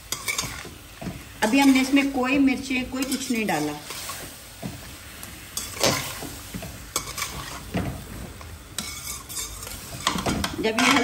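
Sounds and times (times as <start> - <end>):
metal spoon stirring in pot: 0.0 - 4.9, 5.6 - 11.0
frying sizzle: 0.0 - 11.0.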